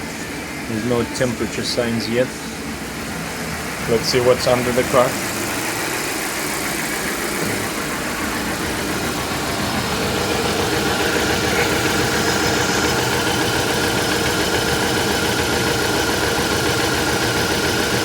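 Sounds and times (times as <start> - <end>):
car engine idling with misfire: 0.0 - 18.0.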